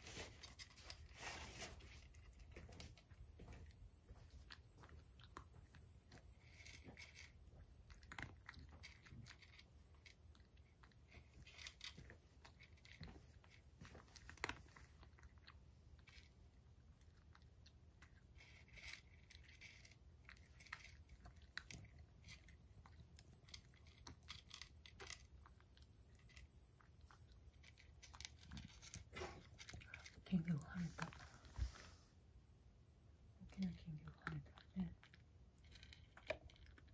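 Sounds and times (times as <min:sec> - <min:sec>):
cat crunching dry kibble: 0:00.0 - 0:32.0, 0:33.4 - 0:36.9.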